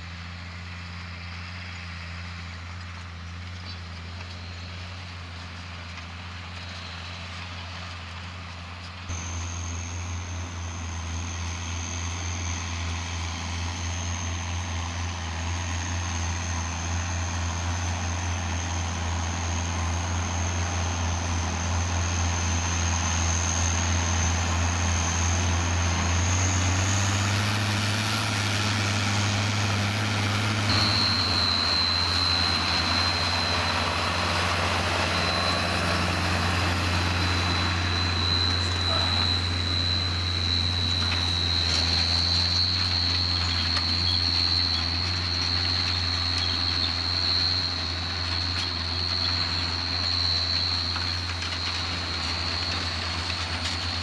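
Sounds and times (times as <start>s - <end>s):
tractor diesel engines under load: 0.0s - 54.0s
thin high whine: 9.1s - 54.0s.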